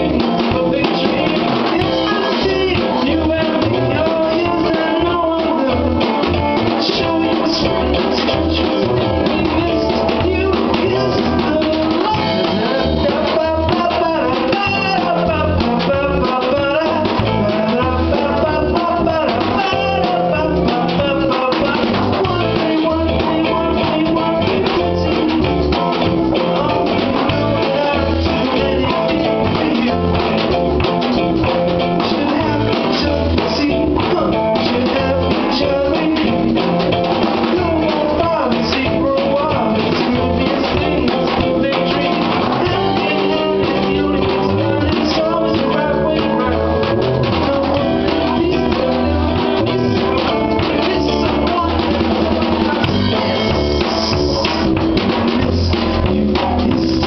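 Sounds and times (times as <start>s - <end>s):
bass line: 0.0s - 57.0s
drum kit: 0.0s - 57.0s
guitar: 0.0s - 57.0s.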